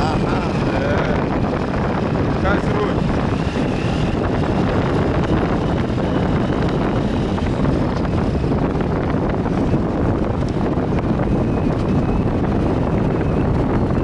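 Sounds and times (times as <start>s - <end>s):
motorbike engine running: 0.0s - 14.0s
wind rushing over microphone: 0.0s - 14.0s.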